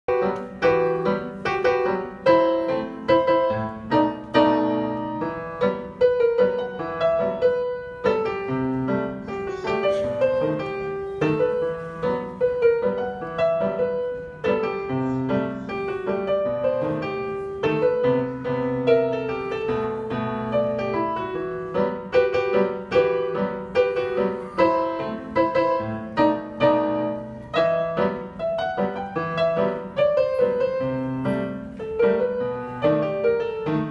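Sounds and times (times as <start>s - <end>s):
digital piano piece: 0.0s - 33.9s.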